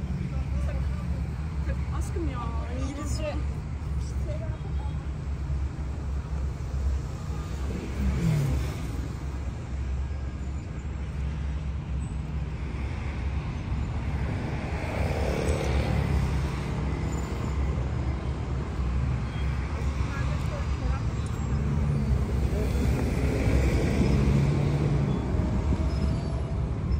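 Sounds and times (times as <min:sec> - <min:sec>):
street traffic rumble: 0:00.0 - 0:26.9.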